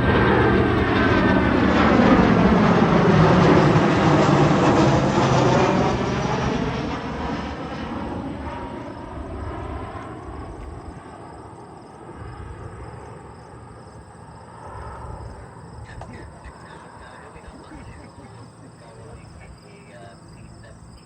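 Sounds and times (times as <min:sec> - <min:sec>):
jet aircraft passing overhead: 0:00.0 - 0:21.0.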